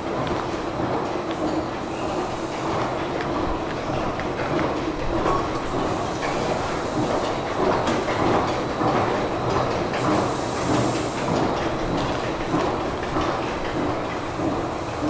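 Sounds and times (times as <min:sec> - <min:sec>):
escalator rattle and hum: 0:00.0 - 0:15.0.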